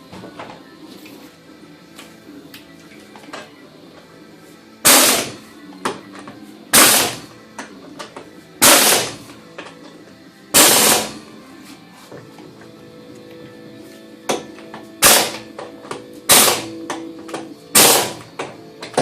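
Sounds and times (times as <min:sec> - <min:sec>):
background music with beat: 0:00.0 - 0:19.0.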